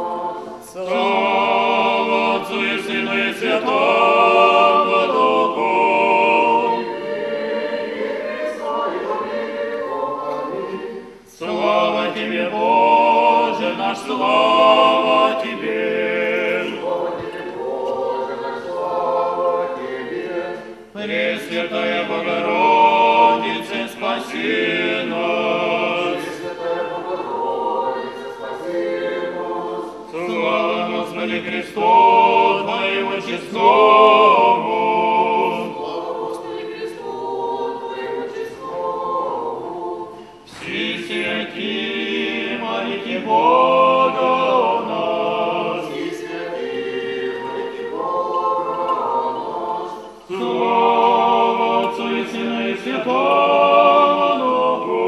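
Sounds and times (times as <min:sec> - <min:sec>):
group singing church chant: 0:00.0 - 0:55.0.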